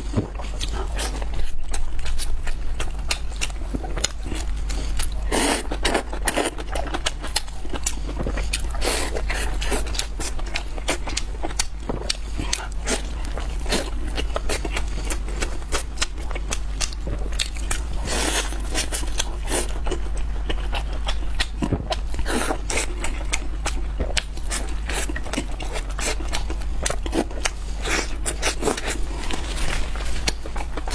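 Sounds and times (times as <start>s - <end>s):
crunchy chewing: 0.0s - 30.9s.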